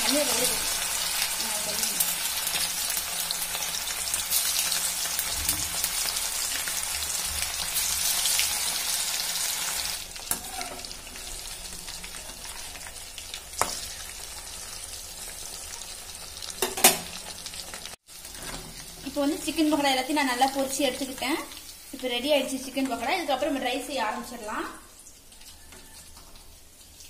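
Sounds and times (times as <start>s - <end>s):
chicken deep-frying sizzle: 0.0s - 27.0s.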